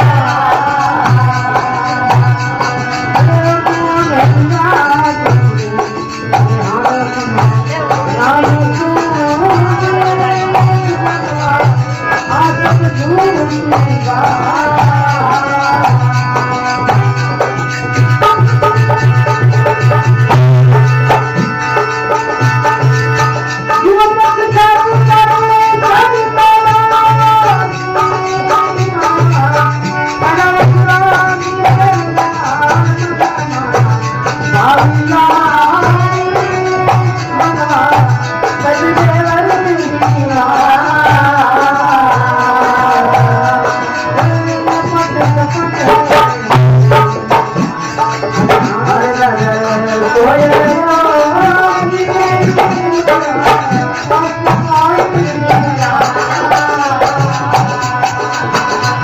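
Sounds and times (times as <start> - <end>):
hand drum beat: 0.0 - 59.0.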